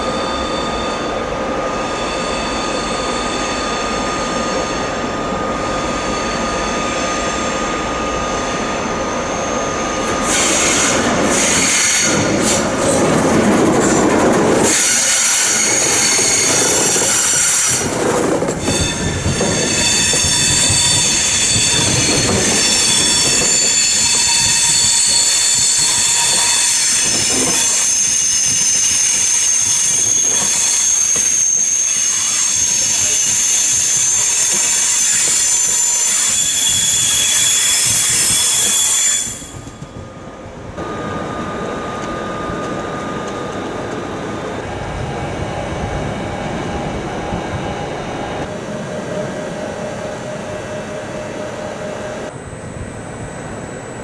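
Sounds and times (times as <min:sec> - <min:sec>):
train rumble: 0:00.0 - 0:54.0
train wheels squealing on rails: 0:00.0 - 0:54.0.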